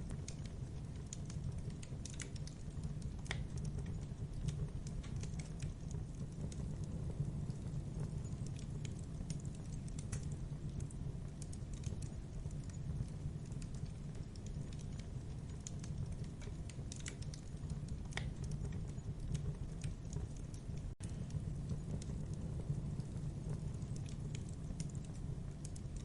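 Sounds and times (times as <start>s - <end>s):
fire crackling and popping: 0.0s - 26.0s
low rumble of flame: 0.0s - 26.0s.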